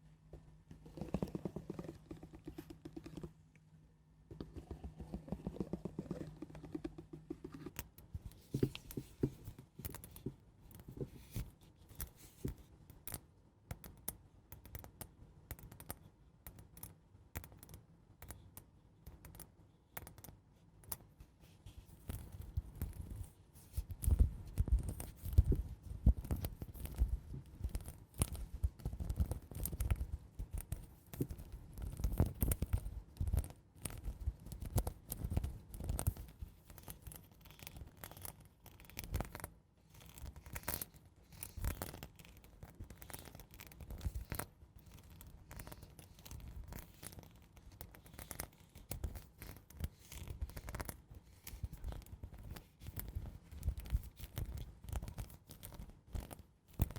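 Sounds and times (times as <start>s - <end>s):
soft scratching and scraping: 0.3s - 3.5s, 4.3s - 12.7s, 21.2s - 56.9s.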